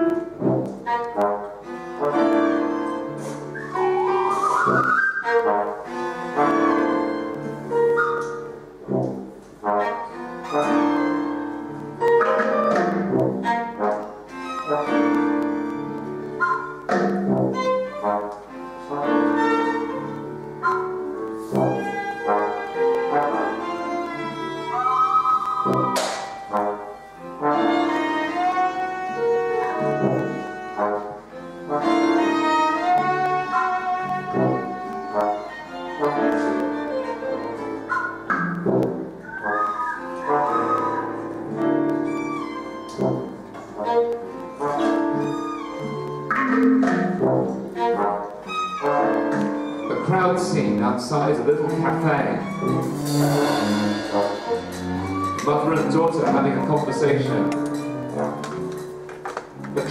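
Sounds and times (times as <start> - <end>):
brass and piano music: 0.0 - 59.9.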